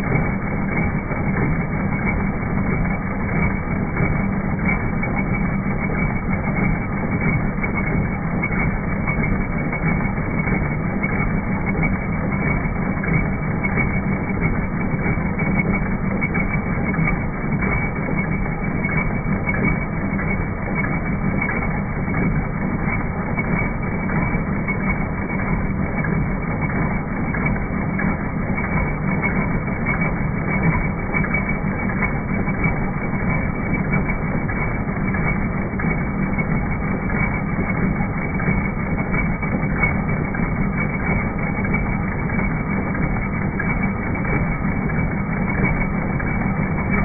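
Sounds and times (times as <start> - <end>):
embroidery machine clattering: 0.0 - 47.0.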